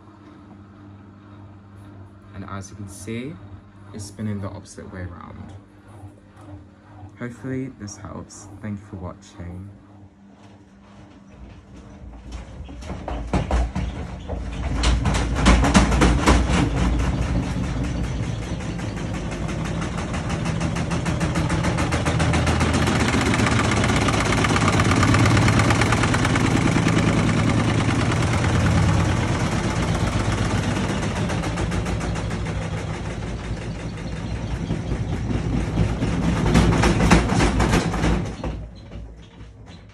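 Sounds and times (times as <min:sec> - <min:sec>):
washing machine drum spinning: 0:00.0 - 0:39.9
washing machine rattling: 0:02.3 - 0:39.9.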